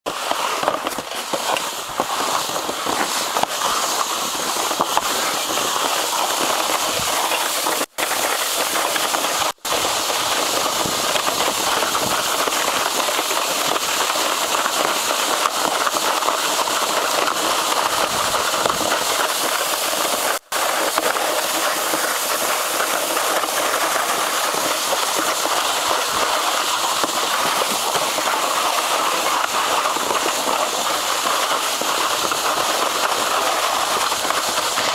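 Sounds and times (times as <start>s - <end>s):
sled sliding on snow: 0.1s - 34.9s.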